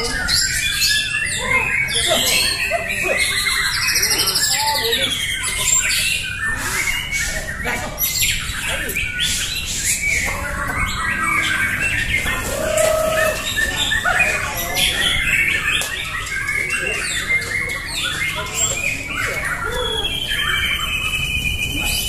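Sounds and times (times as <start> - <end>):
songbirds singing and squawking: 0.0 - 22.0.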